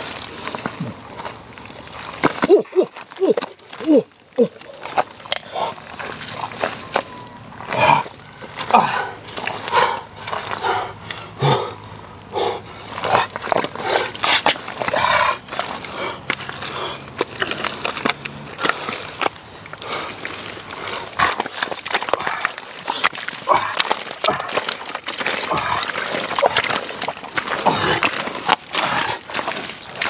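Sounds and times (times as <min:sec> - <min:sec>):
hands squelching in wet mud: 0:00.0 - 0:30.0.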